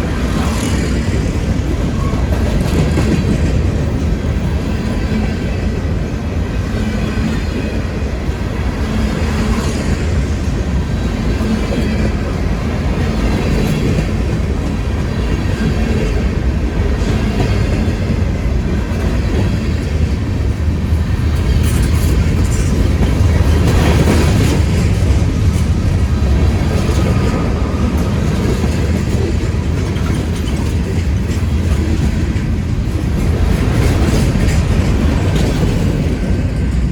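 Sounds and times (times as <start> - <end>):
freight train rumbling past: 0.0 - 36.9
train cars clattering and clicking: 0.0 - 36.9.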